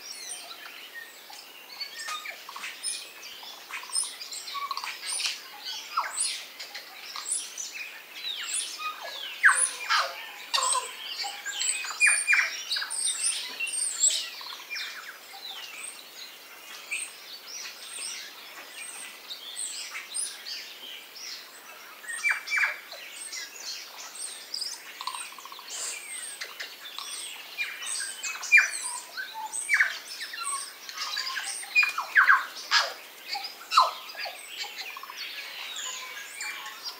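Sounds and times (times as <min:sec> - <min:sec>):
songbirds chorus: 0:00.0 - 0:36.9.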